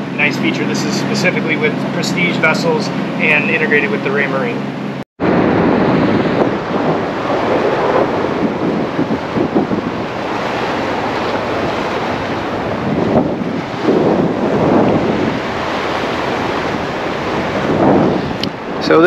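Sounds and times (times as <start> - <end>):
rushing water: 0.0 - 19.0
wind buffeting microphone: 0.0 - 19.0.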